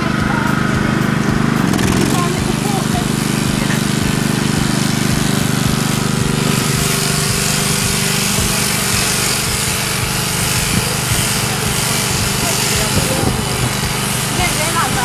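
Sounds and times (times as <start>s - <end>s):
shearing clippers buzzing: 0.0s - 15.0s.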